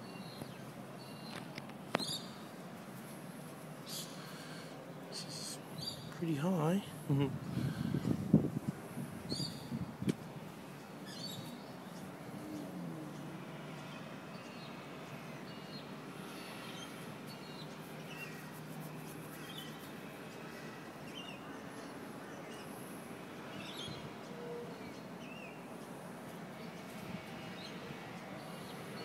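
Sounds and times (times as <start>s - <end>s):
outdoor ambience hum and hiss: 0.0s - 29.0s.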